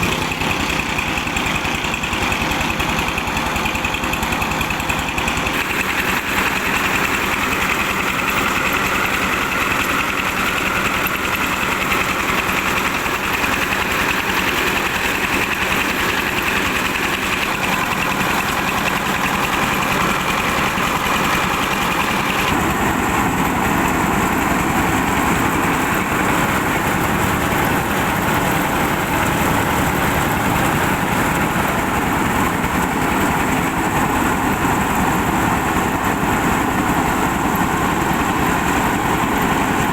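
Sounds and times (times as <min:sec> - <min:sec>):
car engine running: 0:00.0 - 0:39.9
rice milling machine: 0:00.0 - 0:39.9.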